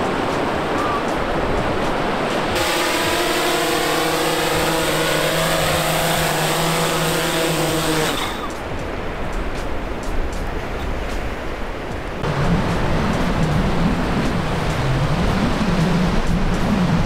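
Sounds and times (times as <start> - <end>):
drone propellers humming: 0.0 - 9.3, 12.2 - 17.0.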